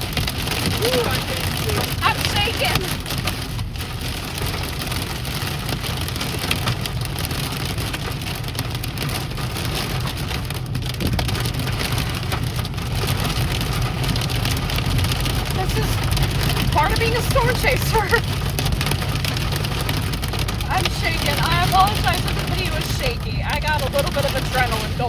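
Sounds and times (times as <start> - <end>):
car rumbling on road: 0.0 - 25.0
hail pelting car roof: 0.0 - 25.0.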